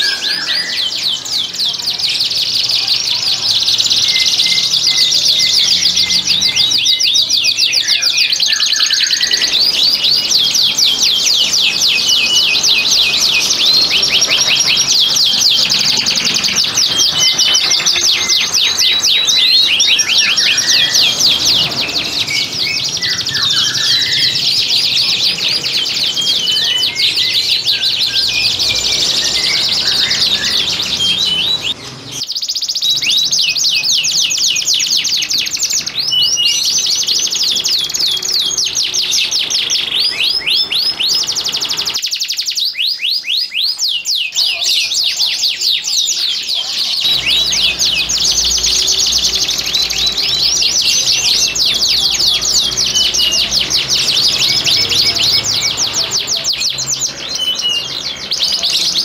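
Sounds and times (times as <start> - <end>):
canaries singing trills: 0.0 - 59.0.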